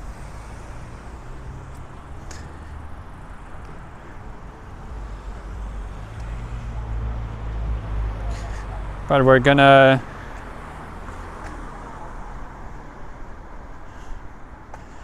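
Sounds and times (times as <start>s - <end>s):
road traffic passing: 0.0s - 15.0s
vehicle engine rumble: 0.0s - 15.0s.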